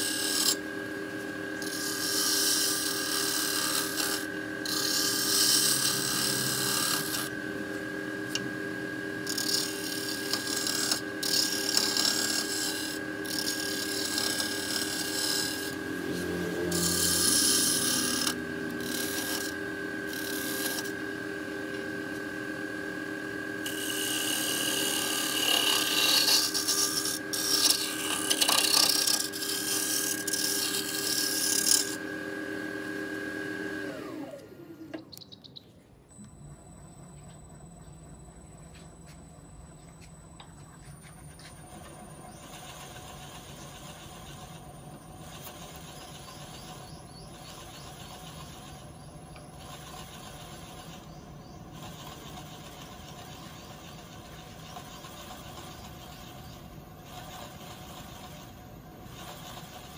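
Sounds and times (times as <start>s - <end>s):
turning tool scraping wood: 0.0s - 0.6s, 1.2s - 22.3s, 23.0s - 32.1s, 40.5s - 59.9s
wood lathe motor whine: 0.0s - 35.2s, 36.1s - 59.9s.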